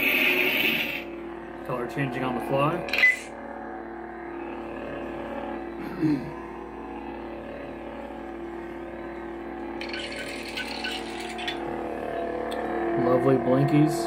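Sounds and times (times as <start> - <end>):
lightsaber humming: 0.0 - 14.0.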